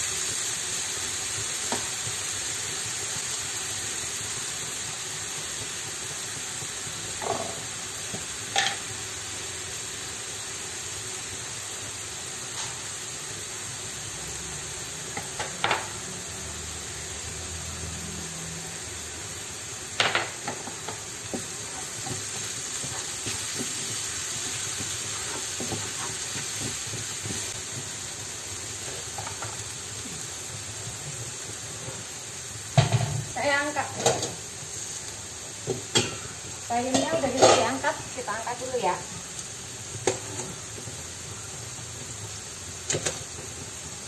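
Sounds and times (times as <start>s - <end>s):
sauce sizzling in oil: 0.0s - 44.0s.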